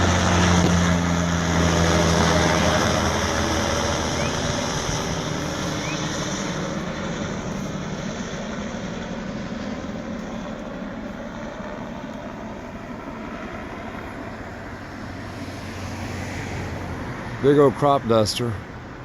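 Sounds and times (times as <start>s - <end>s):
helicopter flying past: 0.0s - 19.0s.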